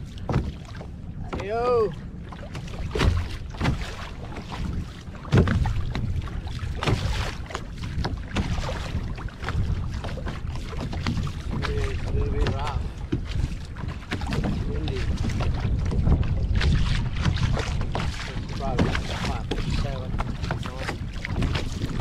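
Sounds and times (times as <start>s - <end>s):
water slapping against kayak hull: 0.0s - 22.0s
wind on microphone: 0.0s - 22.0s.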